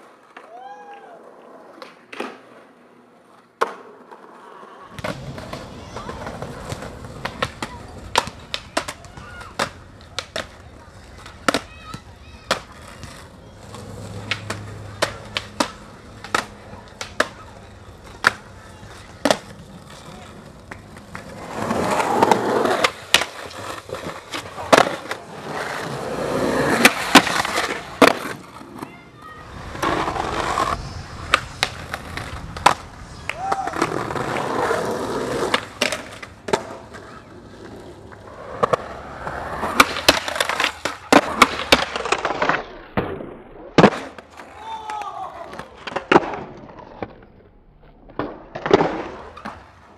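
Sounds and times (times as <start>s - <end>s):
skateboard clacking on hard ground: 0.0s - 49.9s.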